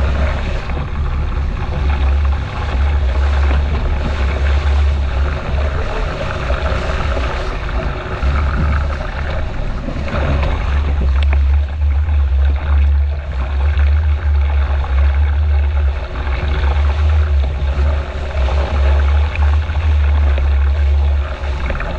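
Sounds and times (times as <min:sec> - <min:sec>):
water rushing and splashing: 0:00.0 - 0:21.9
wind buffeting microphone: 0:00.0 - 0:21.9.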